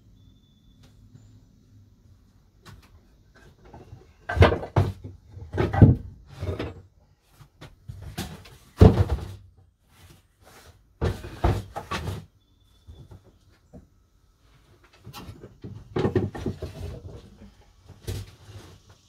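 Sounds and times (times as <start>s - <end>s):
knocks bumps and scrapes of objects: 2.7s - 13.9s, 14.9s - 19.0s.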